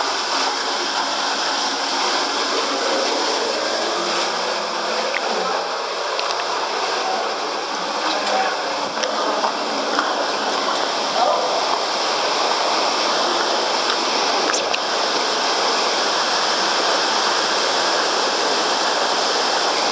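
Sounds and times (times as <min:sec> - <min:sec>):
waterfall pouring and splashing: 0:00.0 - 0:19.9.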